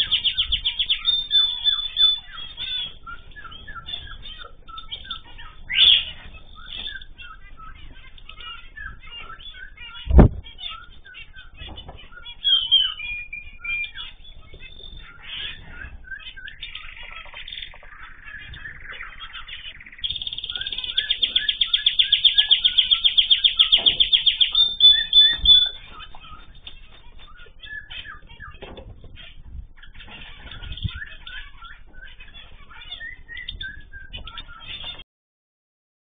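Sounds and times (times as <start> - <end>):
fast bird trill: 0.0 - 35.0
finches chirping: 0.0 - 35.0.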